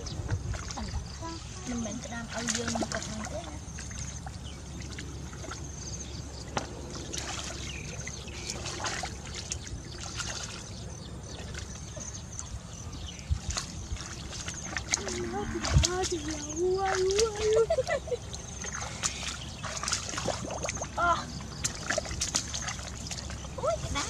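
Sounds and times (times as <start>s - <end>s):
sloshing through muddy water: 0.0s - 24.0s
small splashes and trickles: 0.0s - 24.0s.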